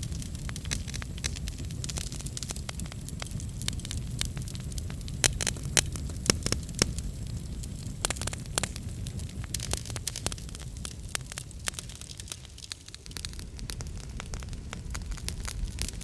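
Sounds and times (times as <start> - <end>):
low rumble of flames: 0.0 - 16.0
sharp pops from fire: 0.0 - 16.0
wood fire crackling: 0.0 - 16.0.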